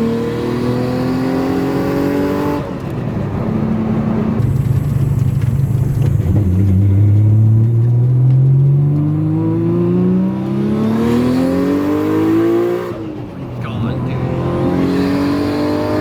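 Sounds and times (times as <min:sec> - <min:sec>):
car engine revving under full throttle: 0:00.0 - 0:16.0.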